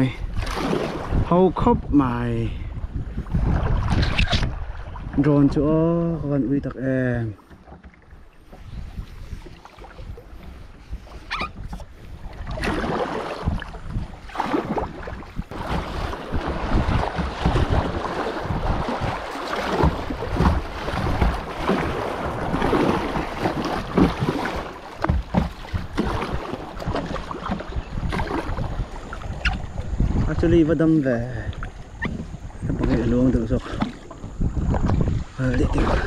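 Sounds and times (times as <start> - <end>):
water sloshing: 0.0 - 1.7, 2.6 - 36.0
paddle splashes: 0.0 - 36.0
wind rumbling on microphone: 0.0 - 36.0.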